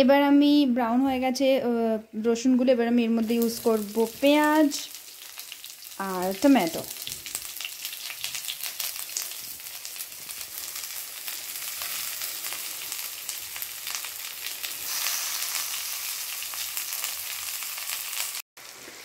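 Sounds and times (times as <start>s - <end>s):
oil crackling: 3.2s - 18.9s
vegetables sizzling in hot oil: 3.2s - 19.0s.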